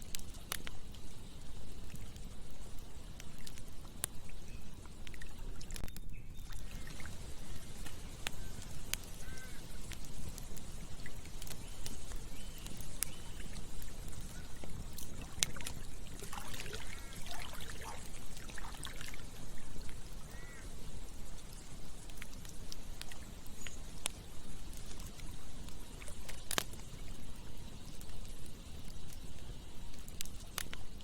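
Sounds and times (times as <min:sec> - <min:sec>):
campfire crackling: 0:00.0 - 0:31.0
sharp fire pops: 0:00.0 - 0:31.0.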